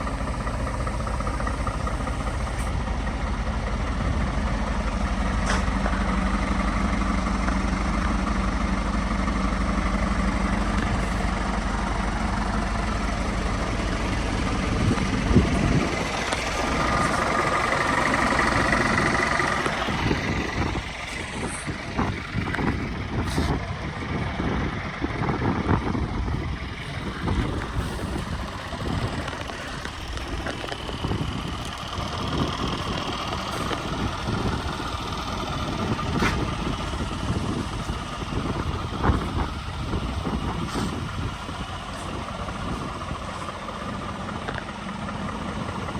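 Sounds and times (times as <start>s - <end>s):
truck diesel engine idling: 0.0s - 45.9s.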